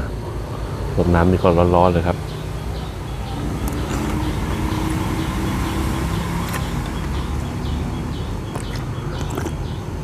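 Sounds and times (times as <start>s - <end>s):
motor engine rumbling: 0.0s - 10.0s.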